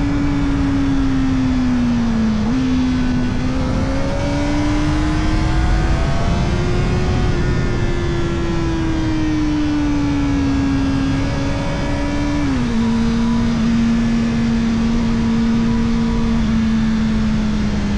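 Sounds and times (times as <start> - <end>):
motorcycle engine revving: 0.0 - 17.9
heavy wind rush: 1.6 - 16.5.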